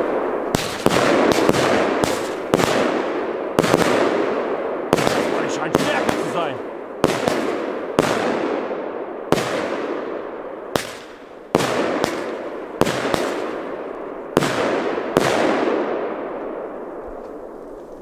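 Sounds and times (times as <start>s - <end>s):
firework bangs with echo: 0.0s - 16.8s.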